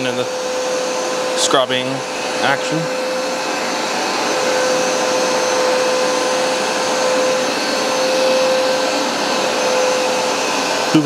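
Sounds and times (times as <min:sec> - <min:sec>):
carpet cleaner whining: 0:00.0 - 0:11.0.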